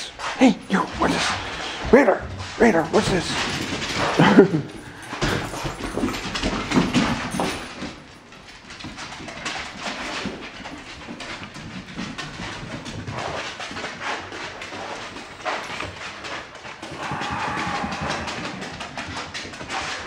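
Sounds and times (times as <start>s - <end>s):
dogs scuffling: 0.0s - 20.0s
dog claws clicking on tiles: 2.8s - 20.0s.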